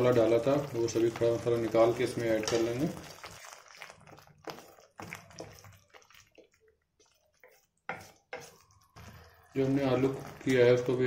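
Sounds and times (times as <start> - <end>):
spatula scraping paste in pan: 0.1 - 11.0
wet squelching: 0.3 - 11.0.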